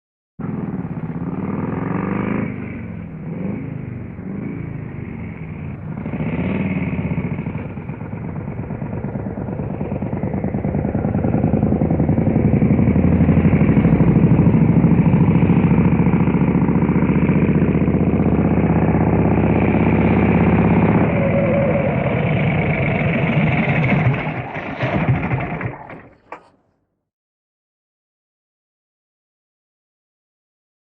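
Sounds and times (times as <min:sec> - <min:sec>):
motorcycle engine revving: 0:00.4 - 0:26.6.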